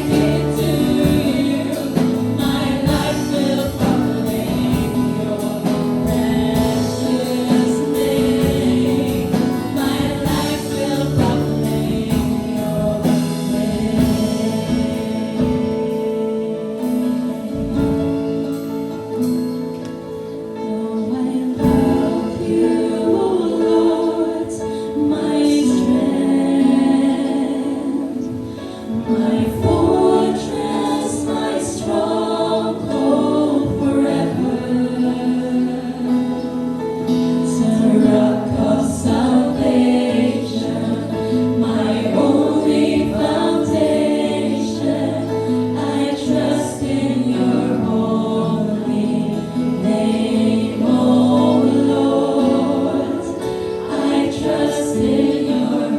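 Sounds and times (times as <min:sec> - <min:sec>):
group singing a worship song: 0:00.0 - 0:55.9
musical accompaniment: 0:00.0 - 0:55.9.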